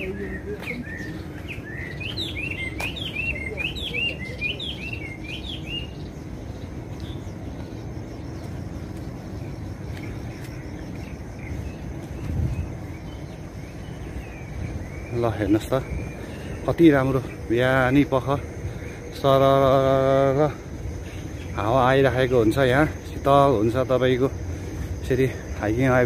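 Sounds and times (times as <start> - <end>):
songbird chirping: 0.0 - 26.0
steady low rumble: 0.0 - 26.0.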